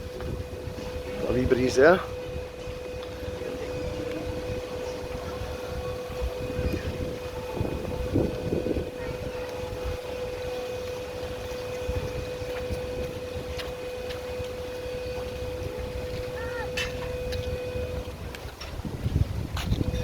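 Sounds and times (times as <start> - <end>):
gimbal motors whining: 0.0 - 20.0
wind buffeting microphone: 0.0 - 20.0
faint voices: 0.1 - 19.1.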